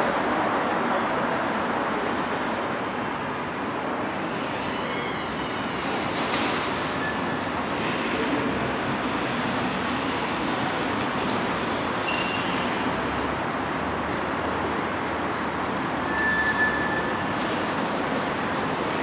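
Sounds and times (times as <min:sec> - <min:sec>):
concourse bustle: 0:00.0 - 0:19.0
road traffic: 0:00.0 - 0:19.0.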